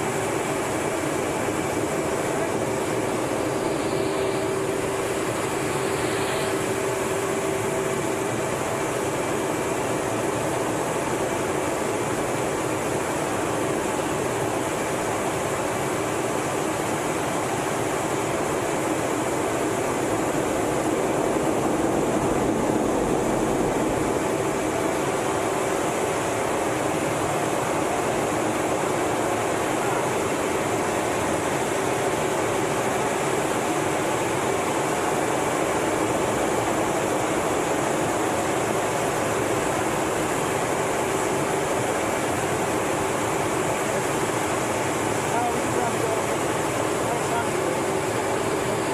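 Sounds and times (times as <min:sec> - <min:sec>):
jet engine and airflow noise: 0:00.0 - 0:48.9.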